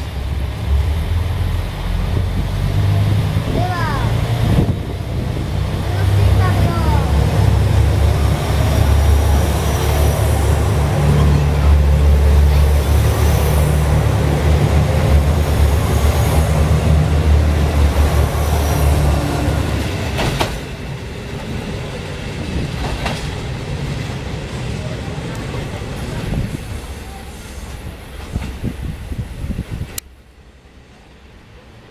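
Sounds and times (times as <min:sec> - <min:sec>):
rail noise: 0:00.0 - 0:31.9.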